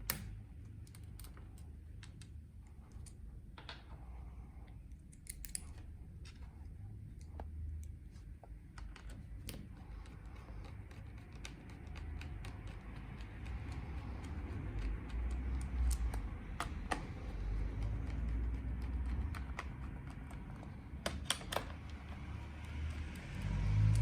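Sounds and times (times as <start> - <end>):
low steady hum: 0.0 - 24.0
light clicks and taps: 4.6 - 24.0.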